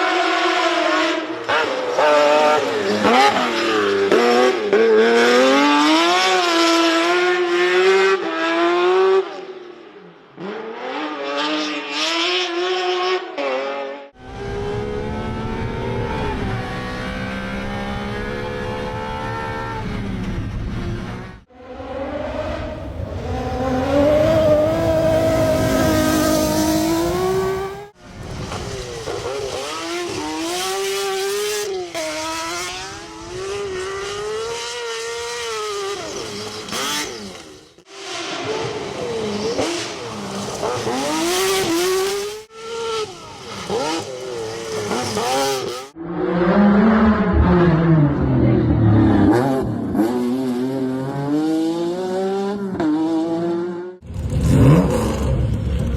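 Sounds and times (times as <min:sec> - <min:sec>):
rally car engine revving: 0:00.0 - 0:09.4, 0:10.4 - 0:55.9.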